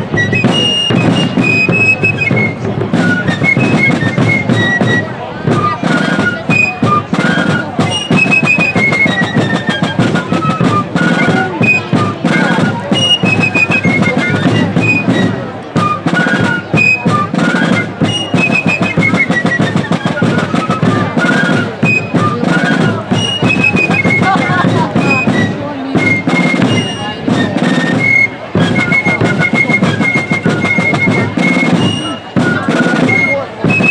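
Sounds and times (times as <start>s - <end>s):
shrill fifes playing melody: 0.0s - 33.9s
snare and bass drums beat: 0.0s - 33.9s.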